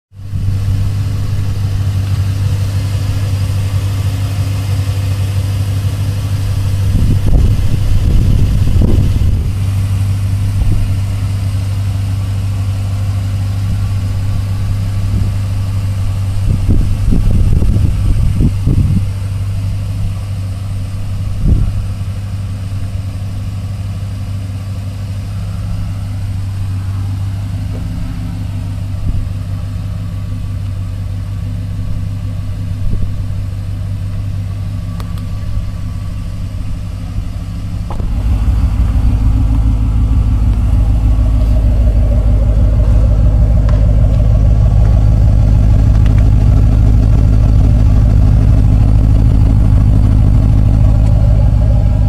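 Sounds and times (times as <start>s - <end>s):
car engine idling: 0.1s - 52.0s.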